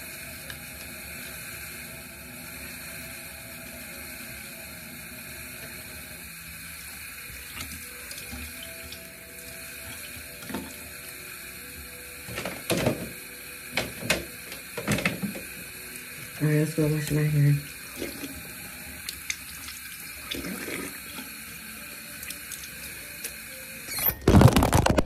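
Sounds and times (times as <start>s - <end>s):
sink tap running: 0.0s - 24.0s.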